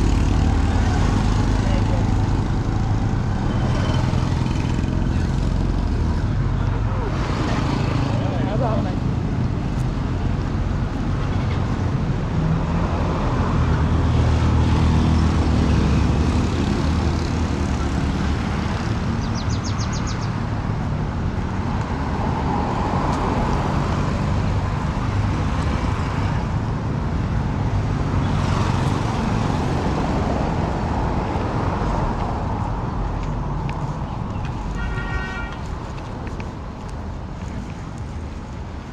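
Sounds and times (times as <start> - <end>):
street traffic engines: 0.0 - 38.9.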